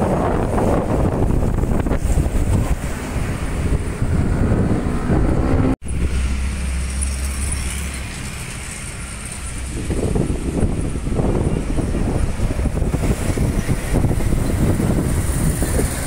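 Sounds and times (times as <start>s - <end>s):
coach engine pulling away: 0.0s - 16.0s
low traffic rumble: 0.0s - 16.0s
motorcycles passing: 0.1s - 16.0s.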